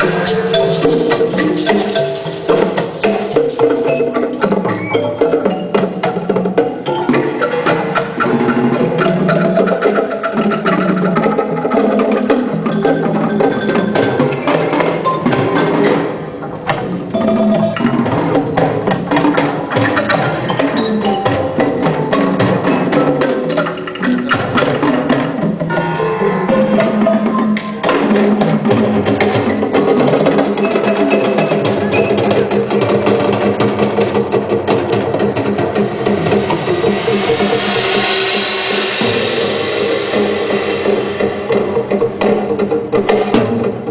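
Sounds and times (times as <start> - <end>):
ringing pitched percussion notes: 0.0 - 43.9.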